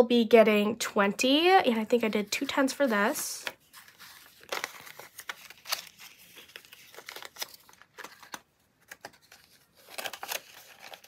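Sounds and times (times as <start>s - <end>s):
banknotes and plastic rustling: 1.7s - 11.0s.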